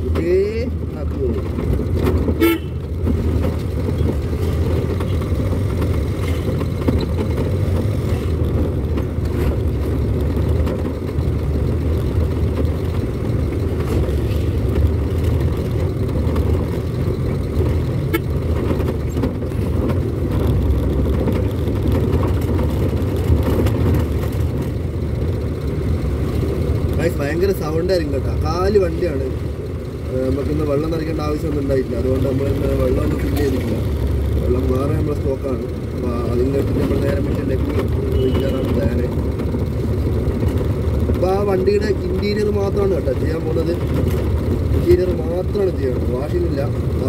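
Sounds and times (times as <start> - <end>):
road noise: 0.0 - 47.0
vehicle engine rumble: 0.0 - 47.0.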